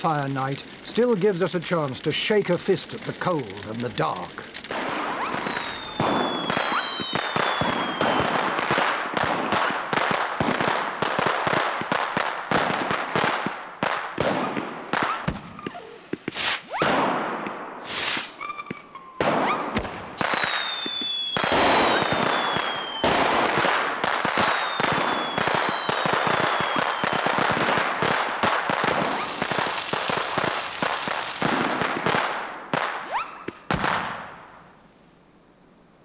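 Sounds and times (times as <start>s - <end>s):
whistling fireworks: 0.0s - 34.6s
fireworks bangs and crackling: 0.0s - 34.8s.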